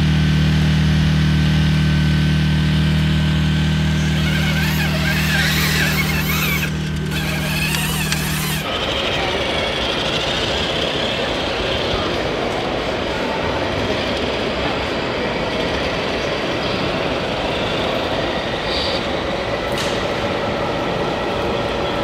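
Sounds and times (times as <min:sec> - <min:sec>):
low engine drone: 0:00.0 - 0:21.9
noisy background: 0:00.5 - 0:22.0.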